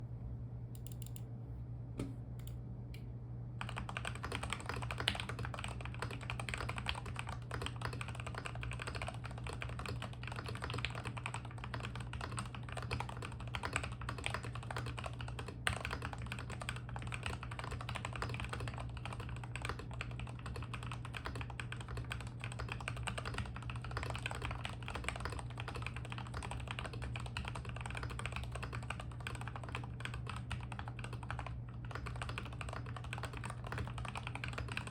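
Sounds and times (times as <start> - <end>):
steady low hum: 0.0 - 34.9
mechanical keyboard typing: 0.8 - 1.2, 3.6 - 34.9.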